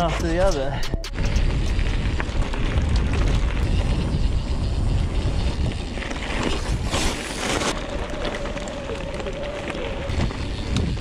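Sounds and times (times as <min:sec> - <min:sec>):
bike tyre noise: 0:00.0 - 0:11.0
wind rumble on microphone: 0:00.0 - 0:11.0.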